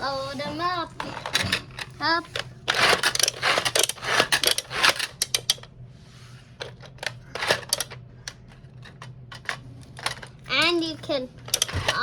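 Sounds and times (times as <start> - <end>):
toy trucks clattering on plastic: 0.2 - 5.6, 6.6 - 12.0.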